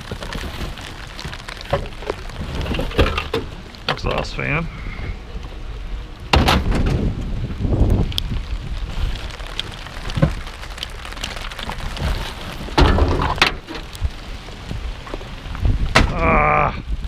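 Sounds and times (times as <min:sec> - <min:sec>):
rough handling rumbles: 0:00.0 - 0:16.5
steady rain falling: 0:00.0 - 0:17.0.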